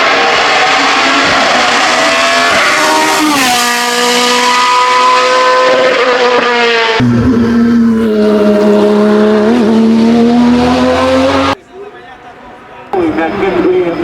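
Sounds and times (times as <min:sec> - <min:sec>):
racing car engine at high revs: 0:00.0 - 0:11.6.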